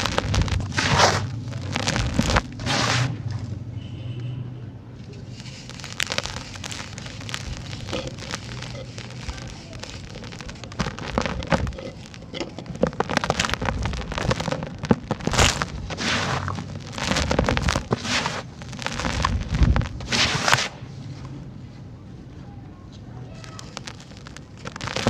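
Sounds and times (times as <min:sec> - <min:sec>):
falling grit pattering: 0:00.0 - 0:03.5, 0:05.0 - 0:21.3, 0:23.2 - 0:25.0
loud crunch: 0:00.0 - 0:03.5, 0:05.1 - 0:20.9, 0:23.3 - 0:25.0
sand-cement chunks crumbling: 0:00.0 - 0:03.5, 0:05.0 - 0:20.8, 0:23.4 - 0:25.0.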